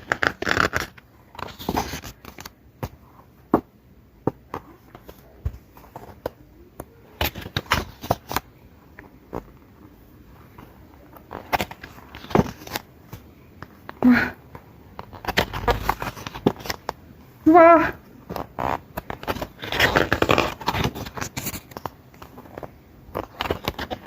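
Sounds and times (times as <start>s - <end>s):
paper and card rustling: 0.0s - 3.7s, 4.3s - 24.0s.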